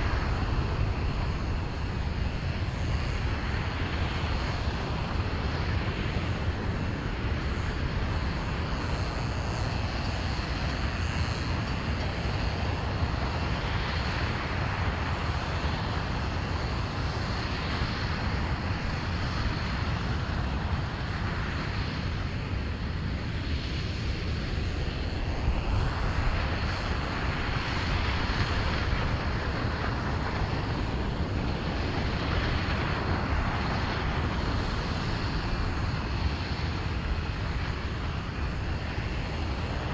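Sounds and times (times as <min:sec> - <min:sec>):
rocket engine rumble and hiss: 0:00.0 - 0:39.9.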